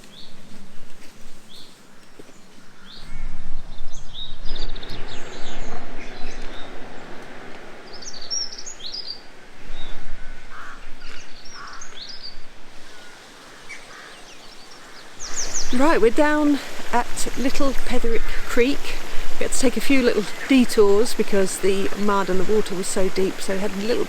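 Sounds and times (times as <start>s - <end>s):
small birds chirping and trilling: 1.4s - 7.1s, 7.8s - 24.0s
steady rushing noise: 2.9s - 24.0s.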